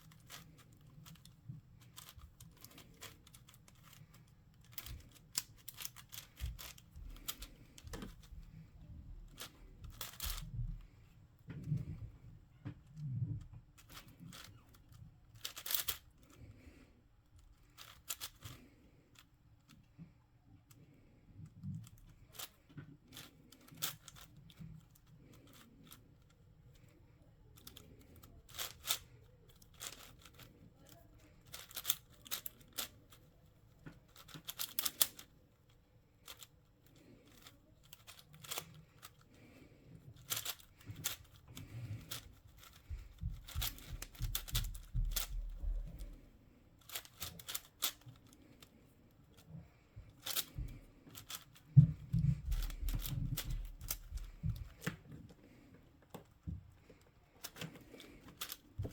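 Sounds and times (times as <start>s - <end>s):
plastic puzzle clicking: 0.1s - 8.6s, 9.3s - 10.6s, 13.8s - 16.4s, 17.3s - 19.8s, 21.5s - 39.4s, 40.1s - 46.2s, 46.8s - 48.7s, 50.1s - 55.4s, 57.0s - 58.9s.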